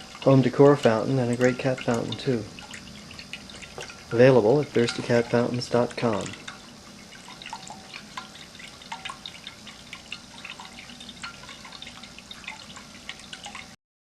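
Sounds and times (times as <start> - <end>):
water drips and plinks: 0.0 - 13.8.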